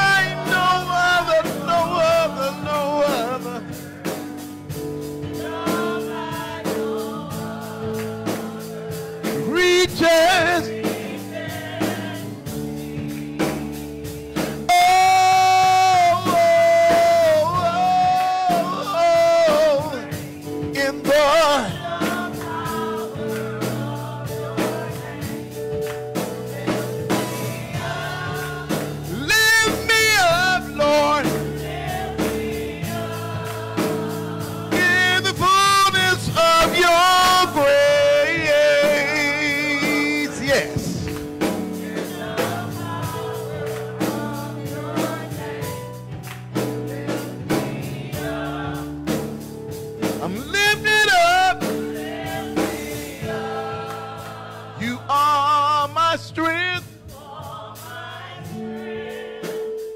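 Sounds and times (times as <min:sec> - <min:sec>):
women singing gospel song: 0:00.0 - 0:49.5, 0:50.2 - 0:59.9.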